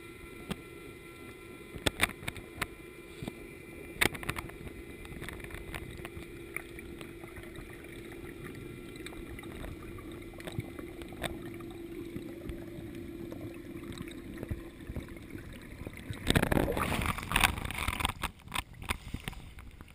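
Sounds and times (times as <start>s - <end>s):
muffled underwater hum: 0.0s - 19.9s
water splashing and sloshing: 1.8s - 19.9s.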